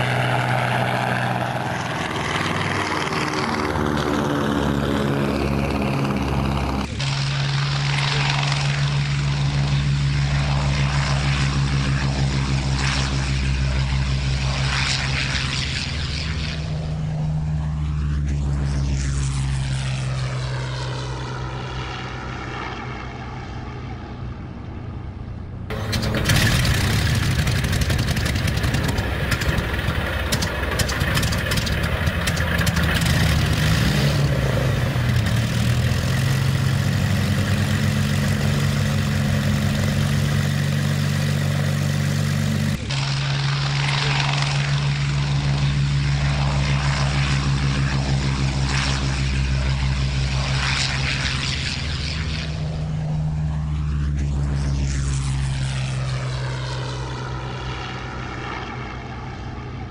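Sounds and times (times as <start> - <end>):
propeller plane engines running: 0.0 - 59.9.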